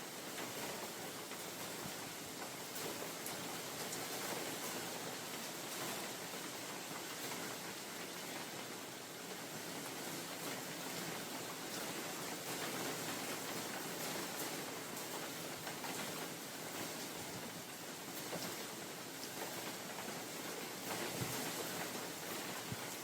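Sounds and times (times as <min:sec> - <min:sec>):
rain falling on forest: 0:00.0 - 0:23.0.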